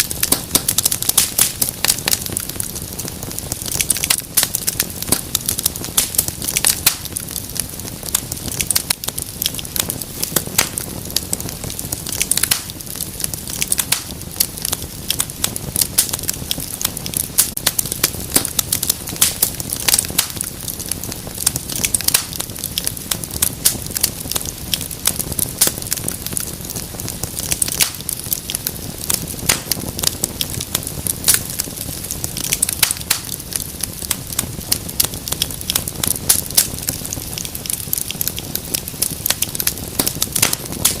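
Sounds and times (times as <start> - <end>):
low rush of flames: 0.0 - 41.0
wood fire crackling and popping: 0.0 - 41.0.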